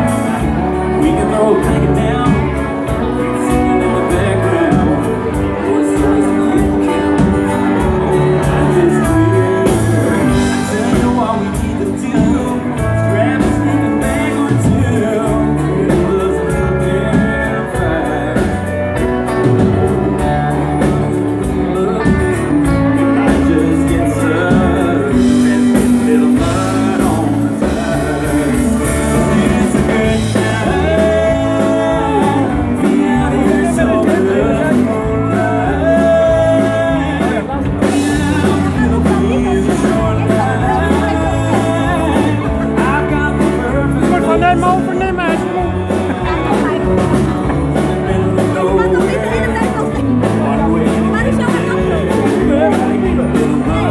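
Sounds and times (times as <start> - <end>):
electric guitar: 0.0 - 53.9
live band playing dance song: 0.0 - 53.9
person singing: 0.0 - 53.9.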